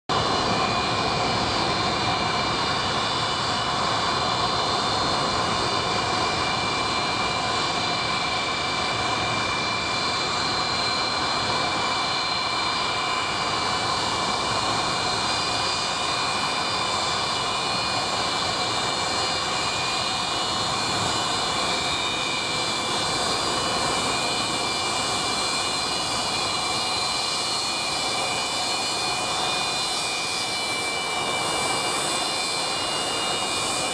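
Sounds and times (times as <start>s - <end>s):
jet engines roaring: 0.1s - 33.9s.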